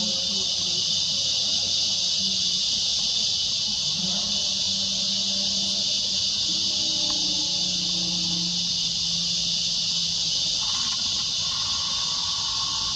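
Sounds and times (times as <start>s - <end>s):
insects chorus: 0.0s - 12.9s.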